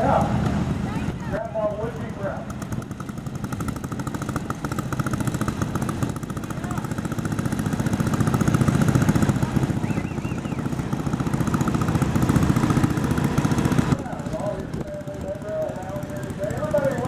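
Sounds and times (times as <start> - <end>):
small tractor engine running hard: 0.0 - 17.0.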